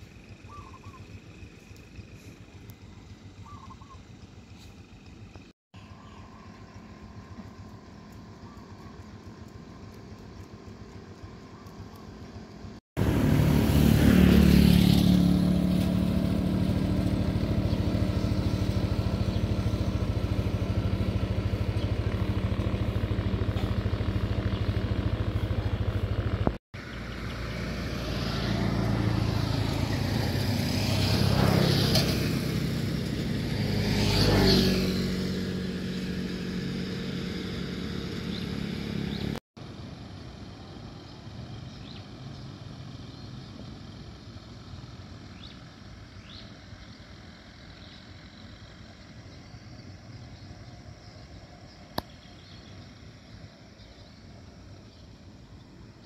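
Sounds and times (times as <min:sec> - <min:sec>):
motorcycle engine running: 0:00.0 - 0:05.5, 0:06.1 - 0:50.9
outdoor background noise: 0:00.0 - 0:56.0
vehicles passing by: 0:00.0 - 0:56.0.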